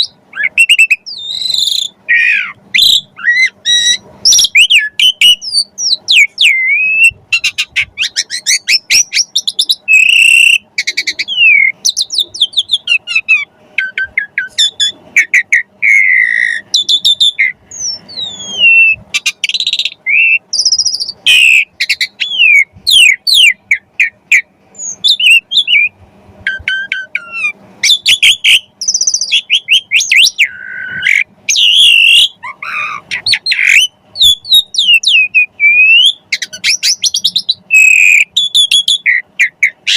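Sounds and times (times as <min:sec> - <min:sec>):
faint steady hum: 0:00.0 - 0:39.9
starling singing: 0:00.0 - 0:39.9.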